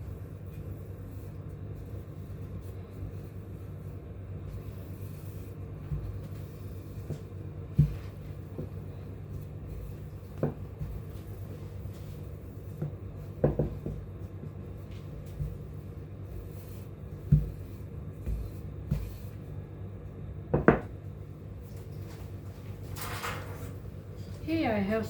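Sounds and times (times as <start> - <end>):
rolling pin rubbing dough: 0.0 - 20.8.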